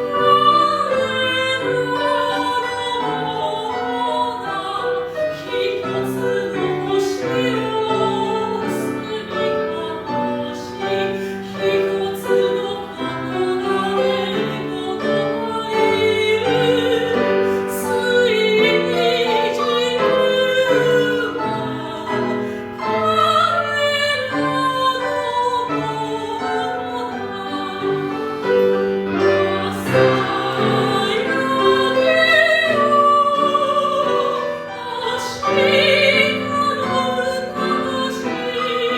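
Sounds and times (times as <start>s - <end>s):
piano accompaniment: 0.0s - 38.9s
soprano singing with vibrato: 0.0s - 38.9s.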